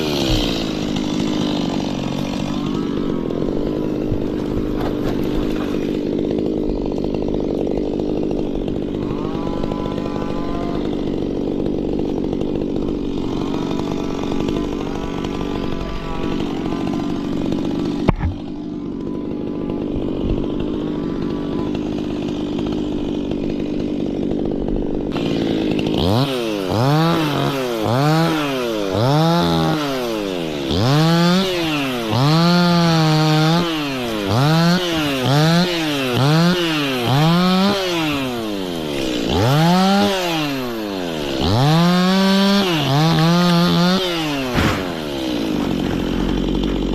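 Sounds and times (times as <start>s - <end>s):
chainsaw engine running: 0.0s - 46.9s.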